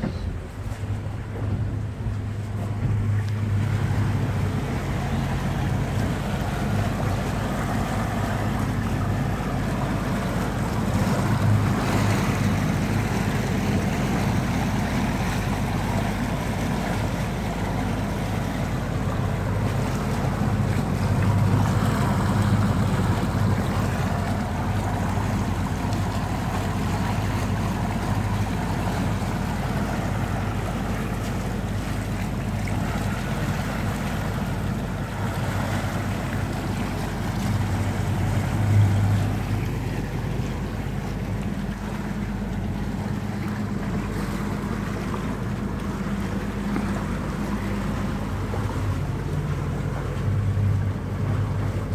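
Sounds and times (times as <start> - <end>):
churned water rushing: 0.0 - 51.9
outboard motor droning: 0.0 - 51.9.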